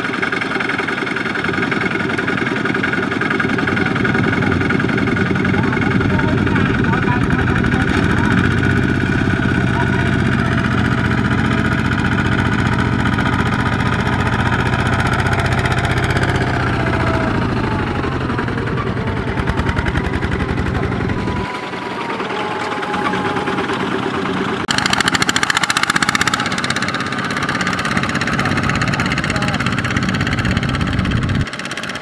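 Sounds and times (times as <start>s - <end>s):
diesel engine chugging: 0.0s - 32.0s.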